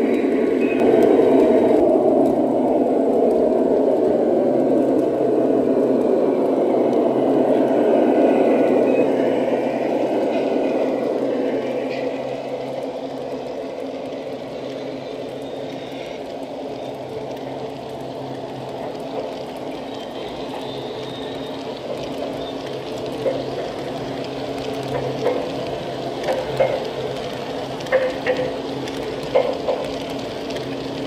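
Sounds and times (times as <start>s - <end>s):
model train wheels rumbling on rail: 0.0s - 31.0s.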